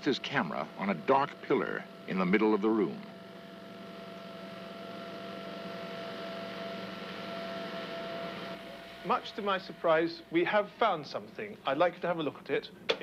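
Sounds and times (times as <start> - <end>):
electronic hum with hiss: 0.0 - 13.0.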